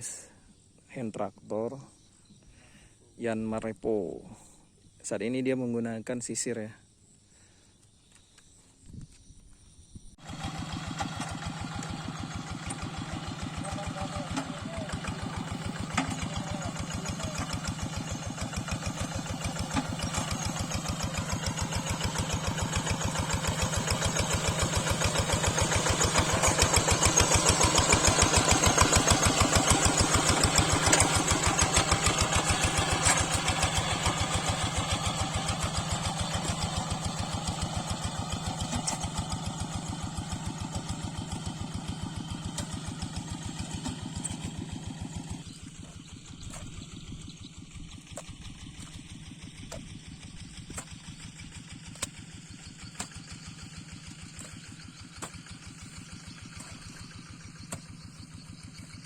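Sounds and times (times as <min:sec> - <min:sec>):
diesel engine chugging: 0:10.2 - 0:59.0.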